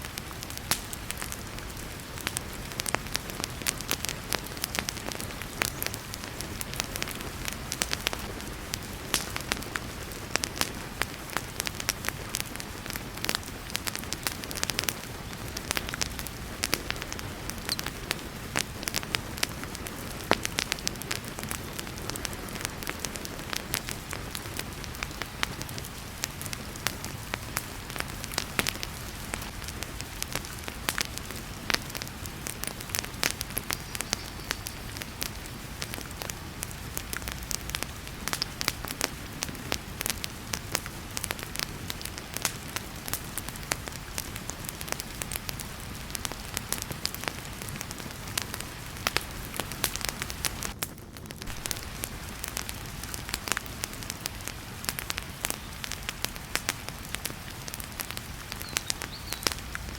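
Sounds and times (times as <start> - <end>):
heavy rain hiss: 0.0 - 50.8, 51.4 - 59.9
wood fire crackling: 0.0 - 59.9.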